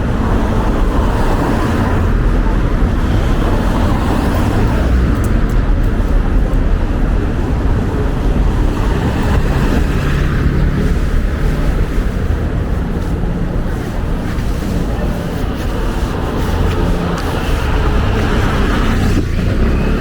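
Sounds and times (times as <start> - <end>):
street traffic: 0.0 - 20.0
wind buffeting microphone: 0.0 - 20.0.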